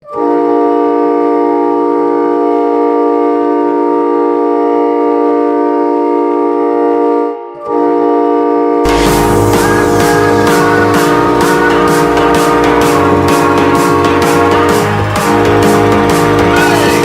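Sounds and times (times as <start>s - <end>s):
goal horn blast: 0.0s - 17.0s.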